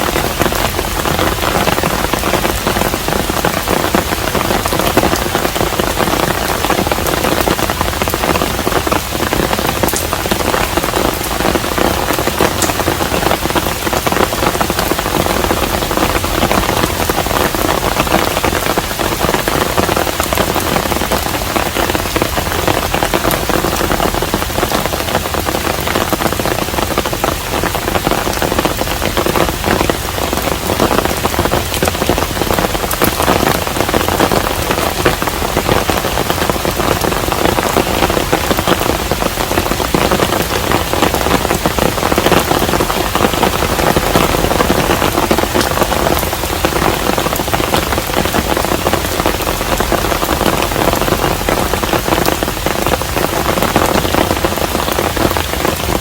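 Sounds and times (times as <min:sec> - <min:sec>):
steady rain patter on a house: 0:00.0 - 0:56.0.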